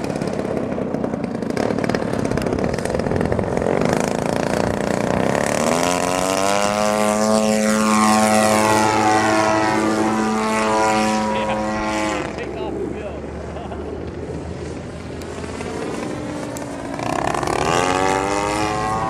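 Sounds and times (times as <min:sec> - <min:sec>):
model plane engine droning: 0:00.0 - 0:19.0.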